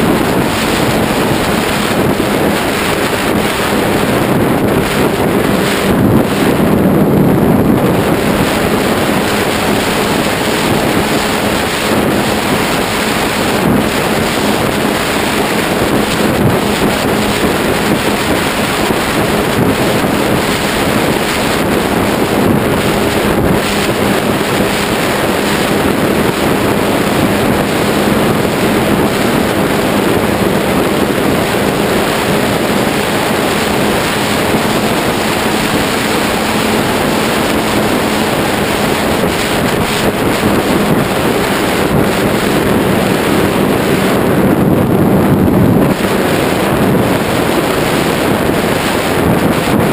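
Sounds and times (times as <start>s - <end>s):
electric motor and propeller hum: 0.0s - 49.9s
heavy wind rushing: 0.0s - 49.9s.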